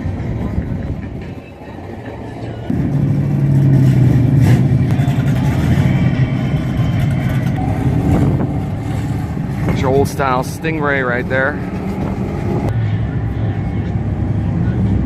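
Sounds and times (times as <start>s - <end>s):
car engine running: 2.6s - 14.8s.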